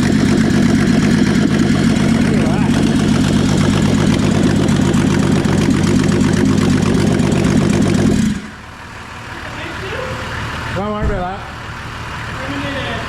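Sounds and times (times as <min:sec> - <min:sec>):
car engine running without exhaust: 0:00.0 - 0:13.0.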